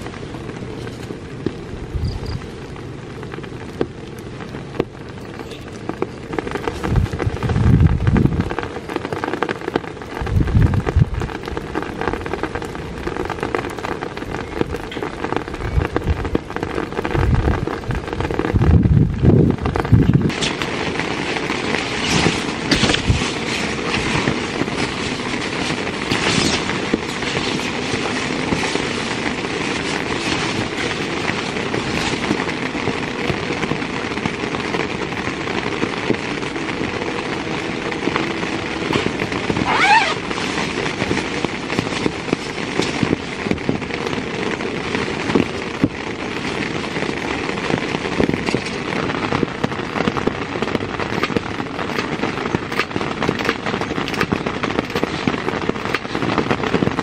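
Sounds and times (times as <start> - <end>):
heavy rain on tent fabric: 0.0 - 57.0.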